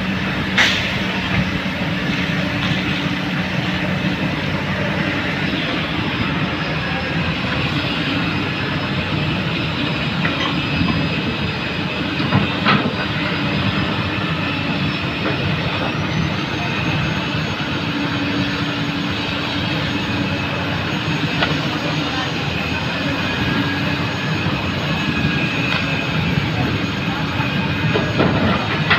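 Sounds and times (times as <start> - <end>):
excavator engine and hydraulics: 0.0 - 28.9.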